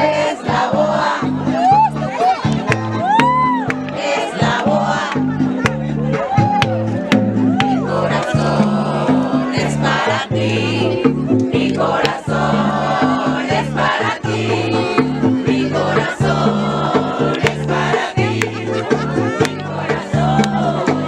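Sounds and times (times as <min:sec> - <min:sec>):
bass line: 0:00.0 - 0:21.0
music with singing voices: 0:00.0 - 0:21.0.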